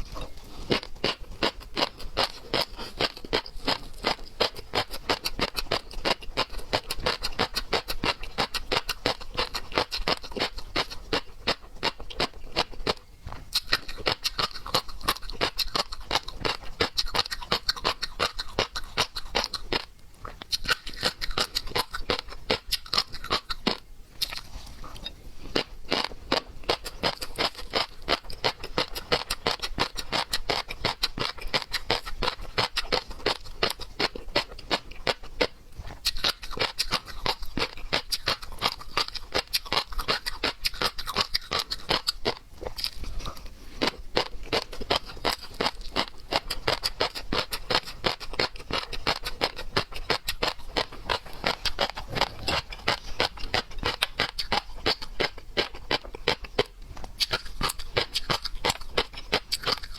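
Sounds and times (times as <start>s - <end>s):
person chewing crunchy seafood: 0.0s - 59.9s.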